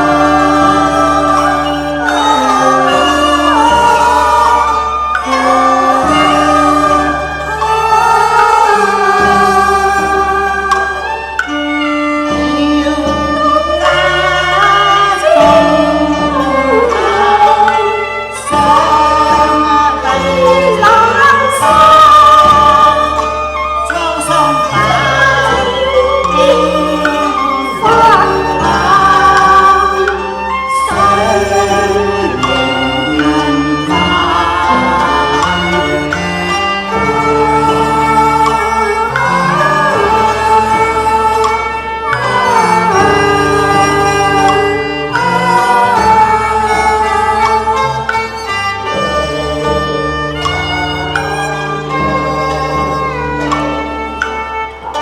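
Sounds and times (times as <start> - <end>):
person singing ornamented melody: 0.0 - 55.0.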